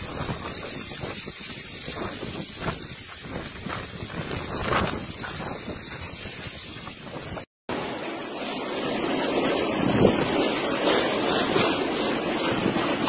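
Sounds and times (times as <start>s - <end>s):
wind buffeting microphone: 0.0s - 7.5s, 9.0s - 13.0s.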